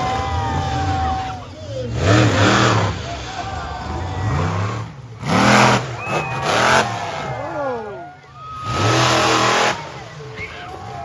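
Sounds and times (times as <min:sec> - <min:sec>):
crowd yelling and cheering: 0:00.0 - 0:11.0
monster truck engine revving: 0:00.0 - 0:11.0.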